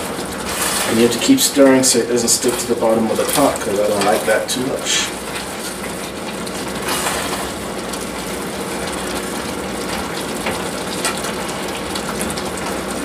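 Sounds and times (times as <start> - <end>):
liquid bubbling in a pot: 0.0 - 13.0.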